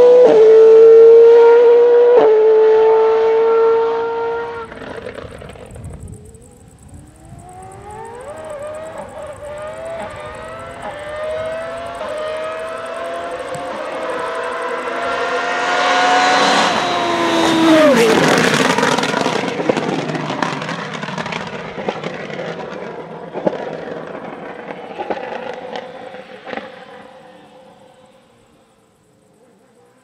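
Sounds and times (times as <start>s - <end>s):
race car engine revving past: 0.0s - 6.4s, 7.4s - 28.4s
exhaust cracks: 4.0s - 28.6s.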